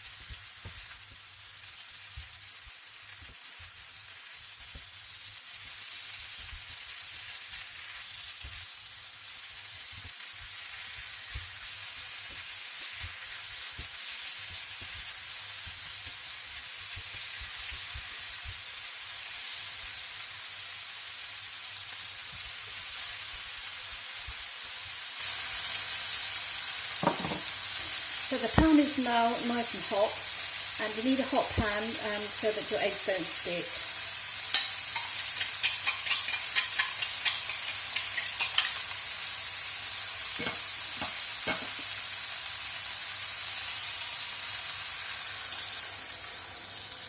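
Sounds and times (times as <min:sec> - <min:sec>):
vegetables sizzling in hot oil: 0:00.0 - 0:47.0.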